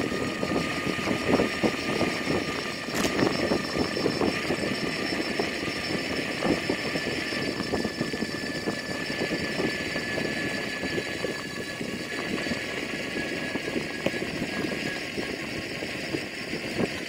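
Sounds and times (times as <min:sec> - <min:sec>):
faint high whine: 0:00.0 - 0:17.0
wind: 0:00.0 - 0:17.0.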